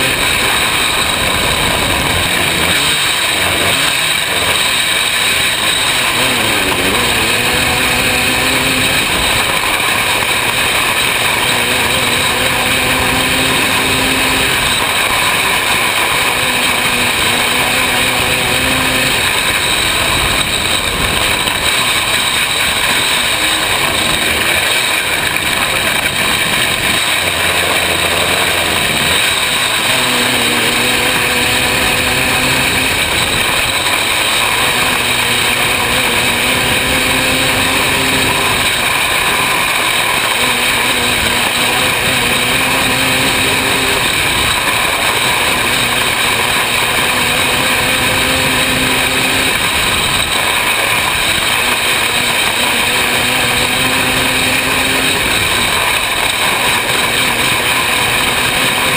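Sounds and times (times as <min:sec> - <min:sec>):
racing car engine: 0:00.0 - 0:58.9.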